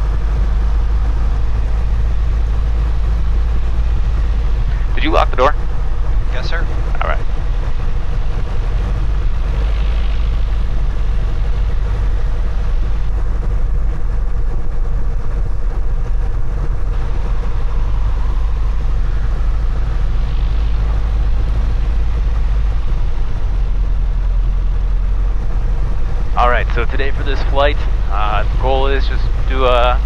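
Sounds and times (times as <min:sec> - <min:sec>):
small plane engine droning: 0:00.0 - 0:30.0.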